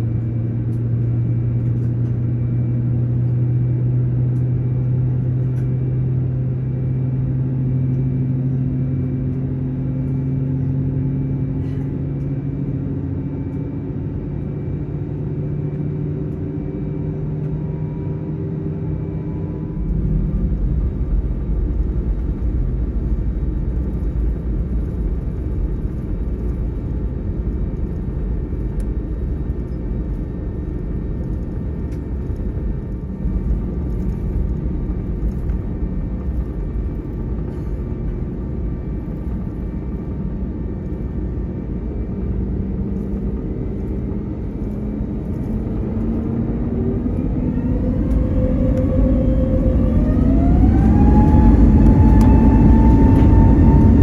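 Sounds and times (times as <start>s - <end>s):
aircraft engines humming: 0.0s - 54.0s
deep rumble with hiss: 0.0s - 54.0s.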